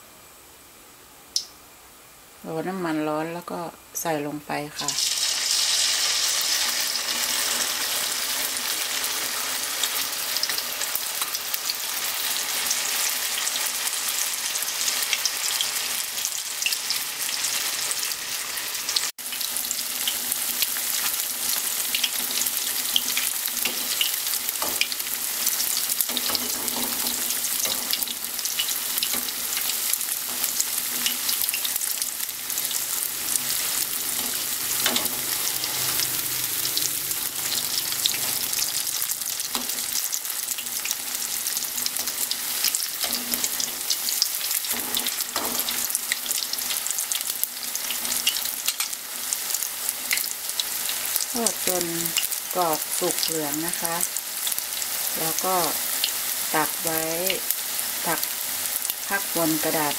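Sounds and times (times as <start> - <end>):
deep-frying sizzle with crackles: 0.0 - 2.5, 3.4 - 59.9.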